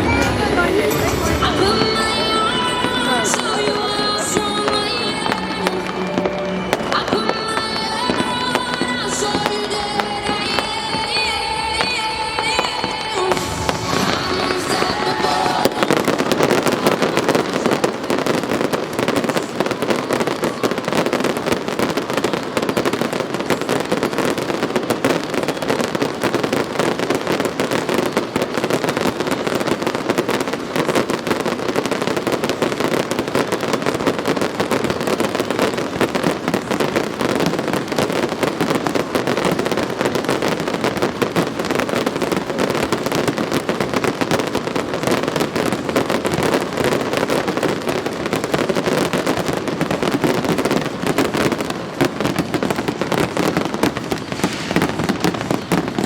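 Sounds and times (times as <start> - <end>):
fireworks crackling and bangs: 0.0 - 56.0.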